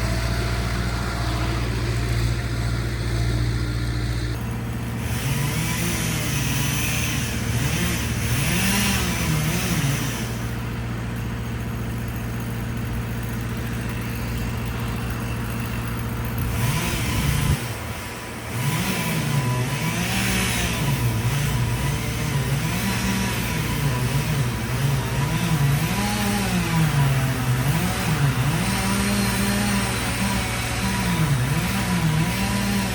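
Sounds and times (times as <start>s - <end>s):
skid steer engine revving: 0.0s - 32.9s.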